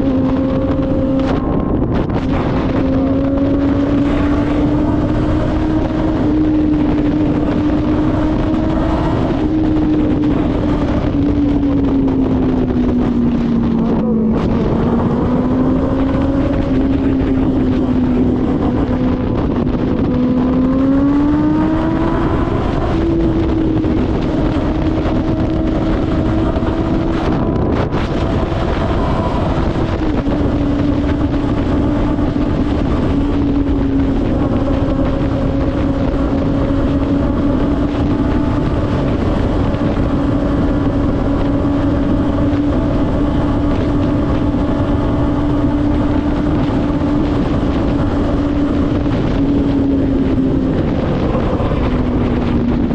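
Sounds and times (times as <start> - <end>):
motorcycle engine cruising: 0.0 - 52.9
wind rush: 0.0 - 52.9.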